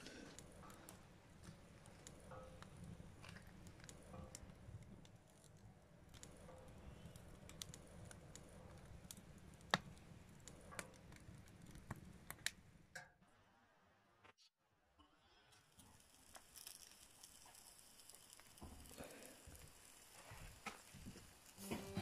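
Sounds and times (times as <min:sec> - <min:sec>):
wood fire crackling: 0:00.0 - 0:12.9, 0:15.3 - 0:22.0.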